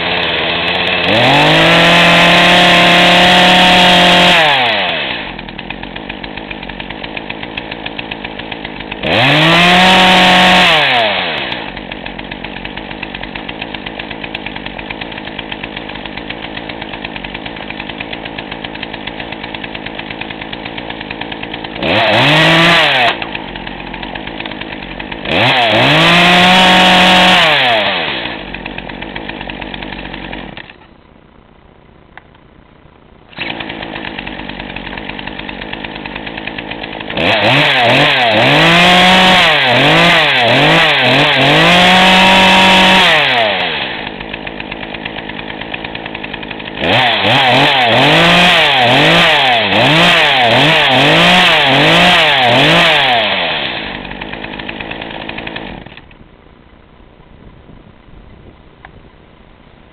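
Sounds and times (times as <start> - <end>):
chainsaw idling and revving: 0.0 - 31.4, 32.1 - 59.9.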